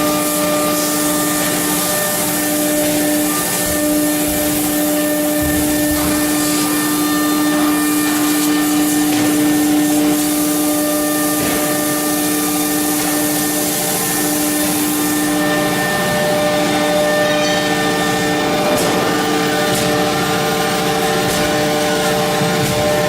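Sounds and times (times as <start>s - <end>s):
router spindle whine: 0.0s - 23.0s.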